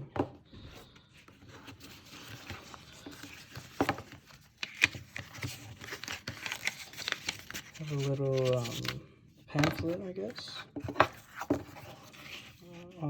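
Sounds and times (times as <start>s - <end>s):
paper rustling: 1.2s - 9.0s, 9.6s - 13.0s.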